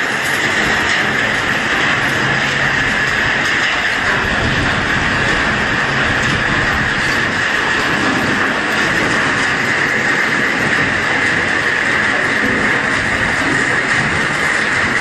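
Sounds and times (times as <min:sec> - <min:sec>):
metal crusher clatter and grind: 0:00.0 - 0:15.0.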